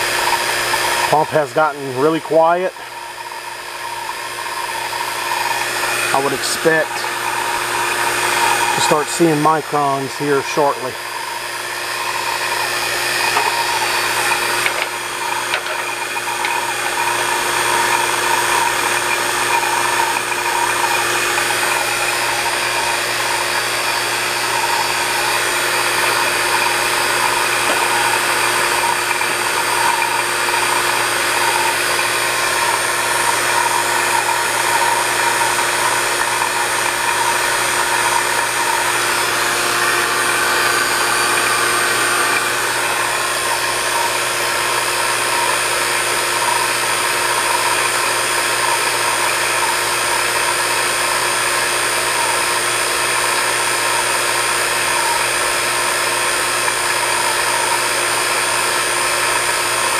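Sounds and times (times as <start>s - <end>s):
vacuum pump humming: 0.0s - 59.9s.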